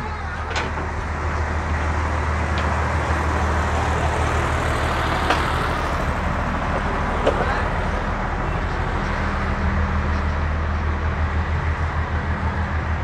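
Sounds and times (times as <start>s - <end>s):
road noise: 0.0s - 13.0s
vehicle engine hum: 0.0s - 13.0s.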